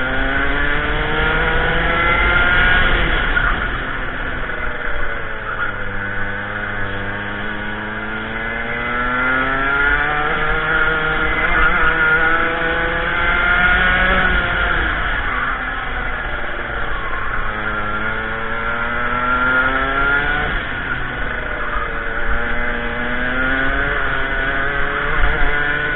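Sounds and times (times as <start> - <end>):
racing kart engine revving: 0.0 - 25.9.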